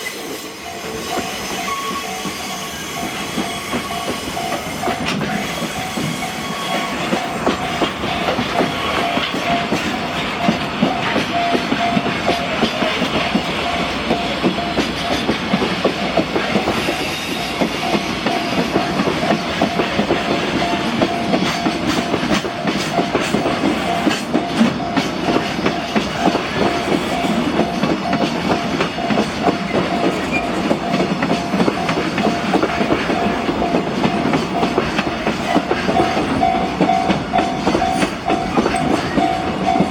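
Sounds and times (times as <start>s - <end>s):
crossing warning bell ringing: 0.0s - 39.9s
train wheels clacking on rails: 0.0s - 39.9s.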